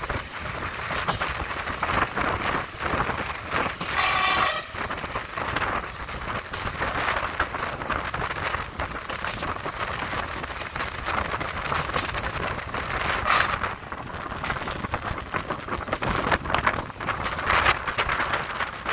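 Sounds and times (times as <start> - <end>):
train wheels rumbling on track: 0.0 - 18.9
wind buffeting microphone: 0.0 - 18.9.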